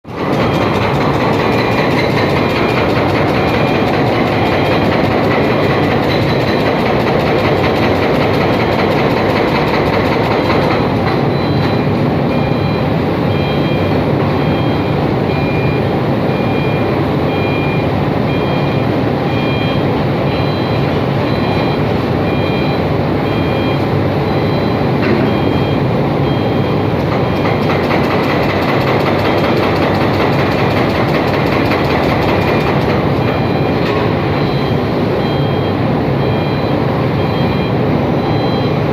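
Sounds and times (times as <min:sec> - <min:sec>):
heavy machinery running: 0:00.0 - 0:38.9
warning alarm beeping: 0:00.2 - 0:38.9.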